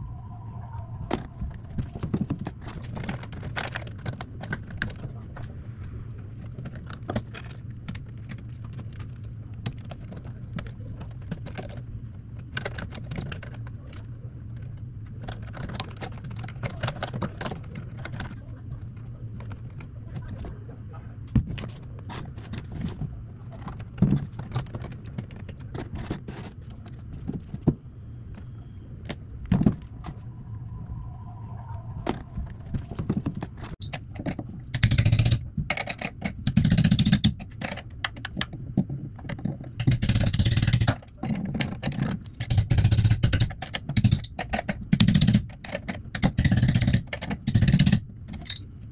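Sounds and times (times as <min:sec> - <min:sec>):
low hum: 0:00.0 - 0:44.4.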